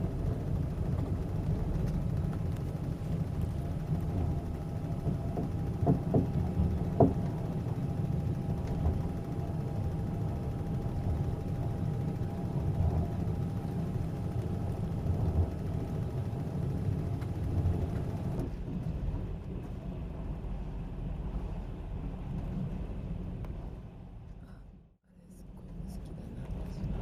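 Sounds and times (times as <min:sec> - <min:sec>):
train rumble inside carriage: 0:00.0 - 0:27.0.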